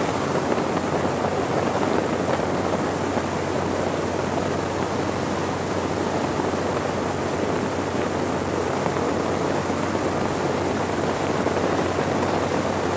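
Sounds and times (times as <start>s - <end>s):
wind and water rushing: 0.0s - 12.9s.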